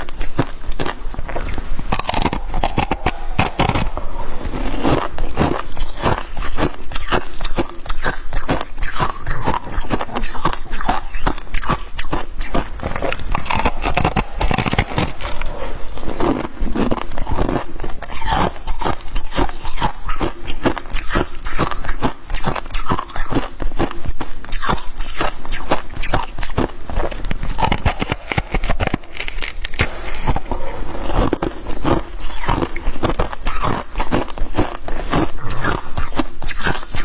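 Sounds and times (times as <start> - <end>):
frost being chewed crunching: 0.0 - 37.0.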